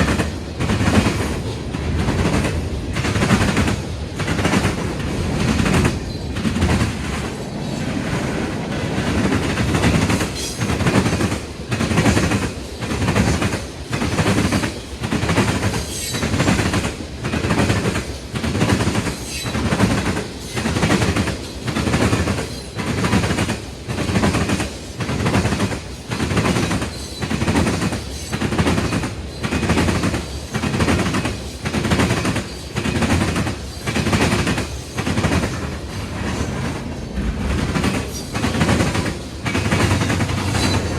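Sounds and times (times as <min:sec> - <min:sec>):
low rumble of train: 0:00.0 - 0:40.9
train wheels clattering over rail joints: 0:00.0 - 0:40.9.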